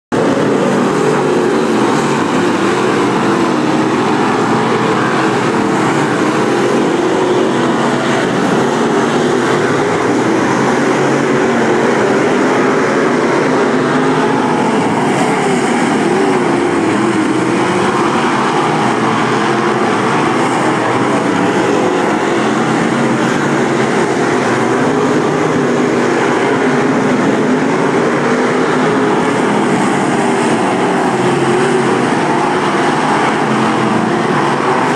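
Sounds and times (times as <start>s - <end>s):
race car engines droning: 0.1s - 34.9s.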